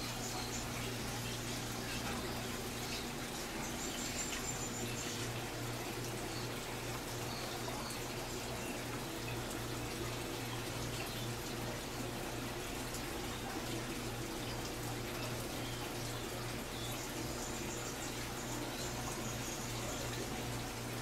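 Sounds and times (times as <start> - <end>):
aquarium water bubbling: 0.0 - 21.0
constant low hum: 0.0 - 21.0.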